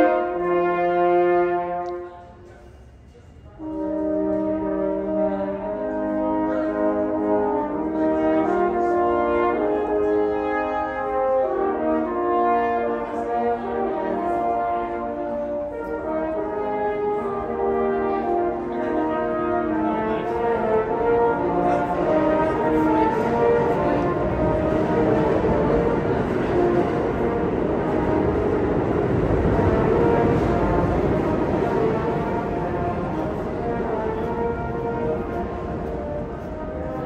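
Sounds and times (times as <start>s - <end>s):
french horns playing chords: 0.0s - 2.3s, 3.6s - 37.0s.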